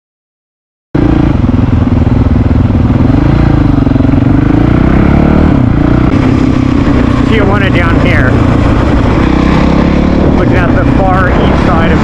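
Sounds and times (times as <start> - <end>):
motorcycle engine revving: 1.0 - 12.0.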